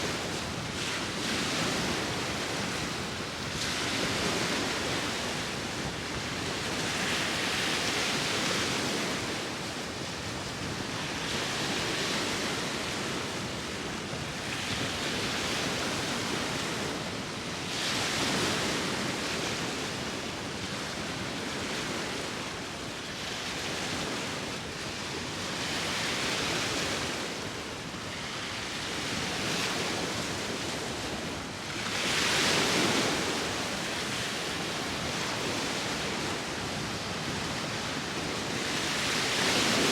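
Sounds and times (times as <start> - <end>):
waves washing onto shore: 0.0 - 39.9
wind: 0.0 - 39.9.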